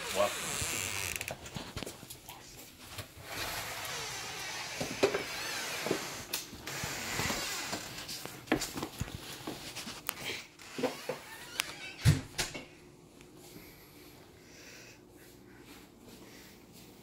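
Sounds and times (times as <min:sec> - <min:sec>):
footsteps: 0:00.0 - 0:12.2, 0:15.2 - 0:17.0.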